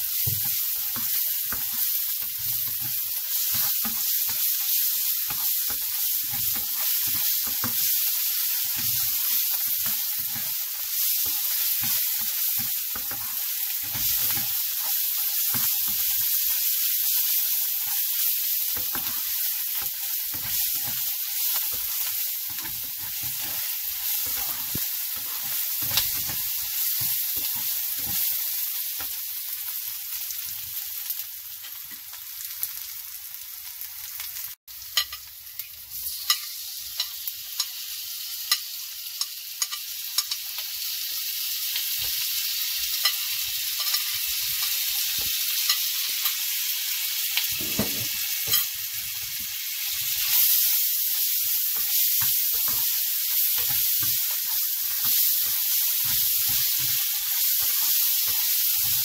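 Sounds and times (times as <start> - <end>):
onions sizzling in hot oil: 0.0 - 59.0.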